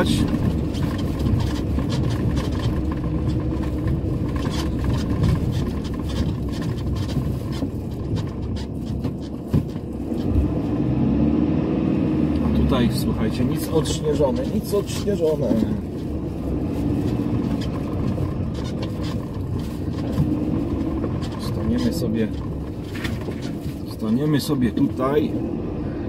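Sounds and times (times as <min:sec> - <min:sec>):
rattles and knocks from bumps: 0:00.0 - 0:10.8, 0:12.4 - 0:25.4
tyres on packed snow: 0:00.0 - 0:25.8
van engine running: 0:00.0 - 0:26.0.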